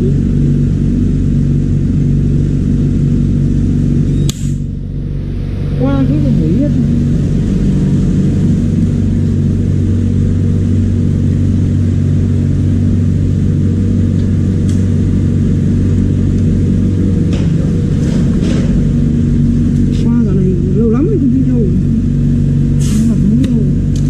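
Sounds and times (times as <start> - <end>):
vacuum pump humming: 0.0 - 24.0.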